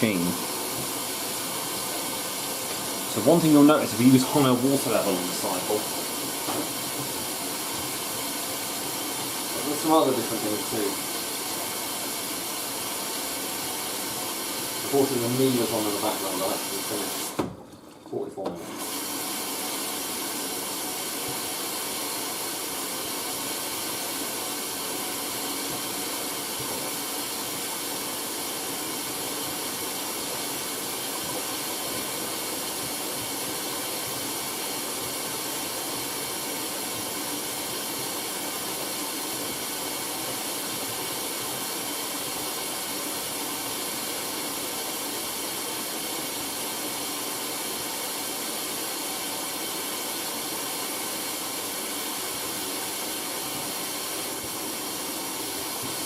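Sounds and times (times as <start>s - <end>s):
water rushing into washing machine: 0.0s - 56.0s.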